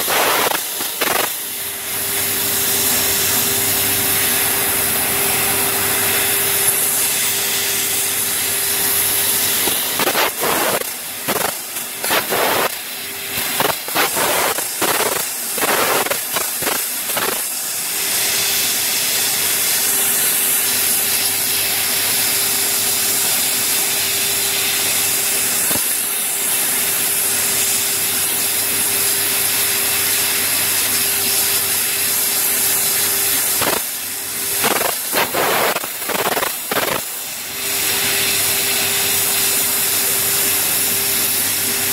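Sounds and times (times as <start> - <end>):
gas jet hissing: 0.0 - 41.9
laser cutter hum: 0.0 - 41.9.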